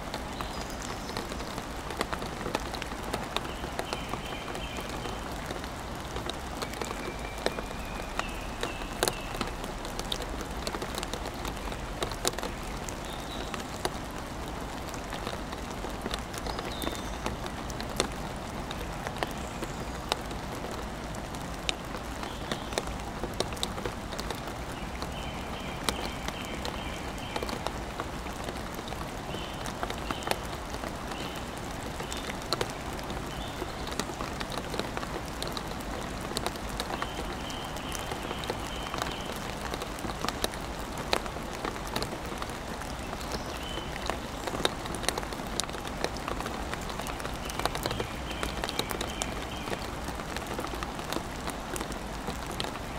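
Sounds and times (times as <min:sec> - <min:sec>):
raindrops tapping: 0:00.0 - 0:52.9
steady rain: 0:00.0 - 0:52.9.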